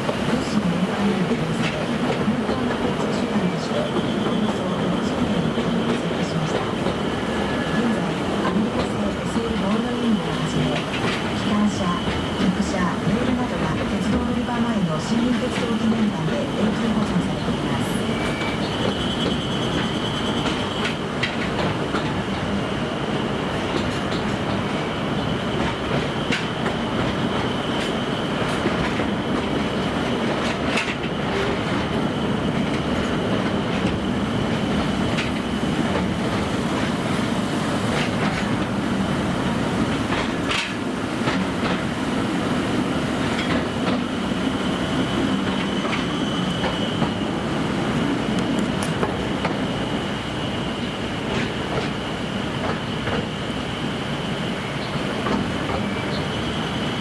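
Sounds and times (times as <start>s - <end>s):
rail joint clicks: 0.0s - 57.0s
train rumble on track: 0.0s - 57.0s.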